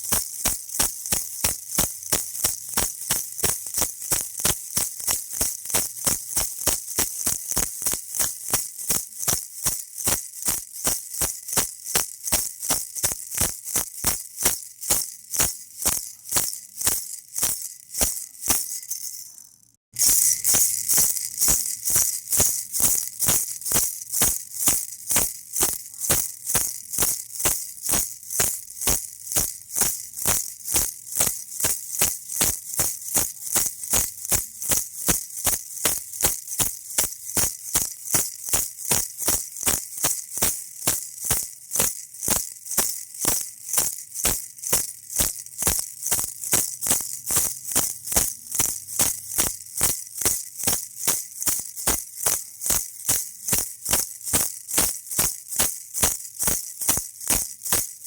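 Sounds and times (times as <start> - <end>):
baby rattle shaking: 0.0 - 58.0.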